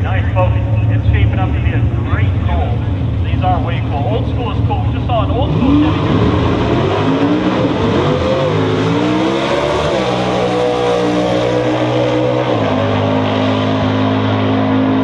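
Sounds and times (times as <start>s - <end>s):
drag racing cars accelerating: 0.0s - 15.0s.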